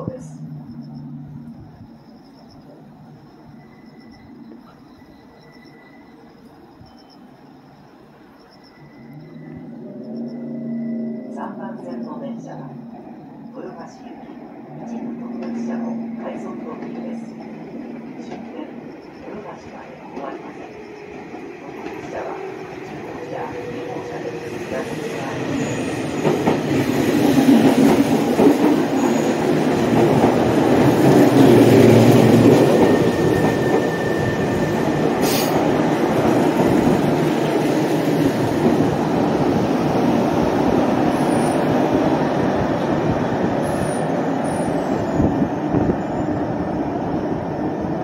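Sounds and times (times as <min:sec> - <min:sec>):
electric train wheels rumbling on rails: 0:00.0 - 0:48.0.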